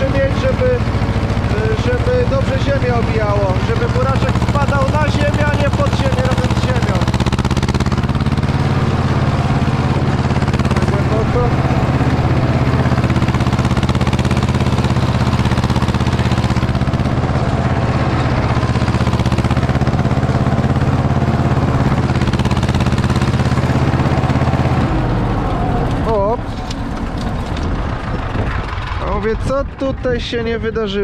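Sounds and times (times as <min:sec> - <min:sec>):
tractor diesel engine running loud: 0:00.0 - 0:31.0.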